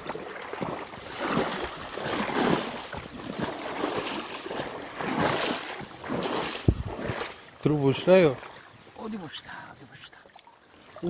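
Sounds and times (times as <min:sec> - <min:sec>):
stream water splashing: 0:00.0 - 0:11.0.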